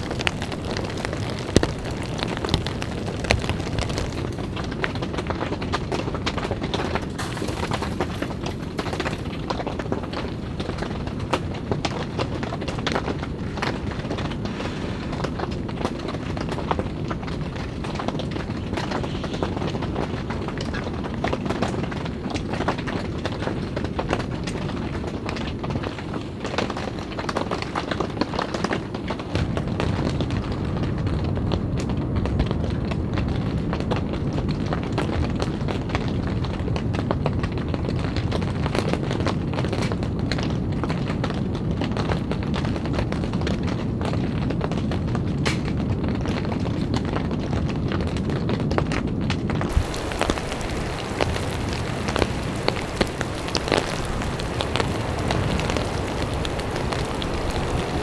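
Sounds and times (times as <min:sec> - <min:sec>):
rain on tent fabric: 0:00.0 - 0:58.0.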